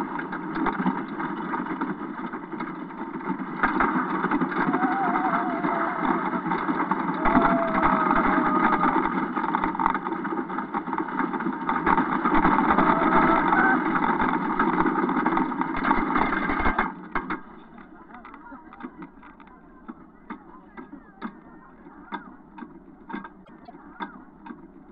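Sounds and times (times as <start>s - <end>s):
roller coaster rumbling and rattling: 0.0s - 24.9s.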